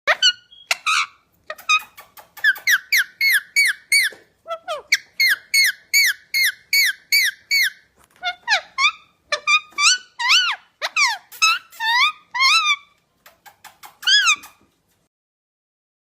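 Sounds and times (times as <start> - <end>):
parrot squawking: 0.1 - 13.0, 13.8 - 14.6
parrot clicks and calls: 0.1 - 15.1.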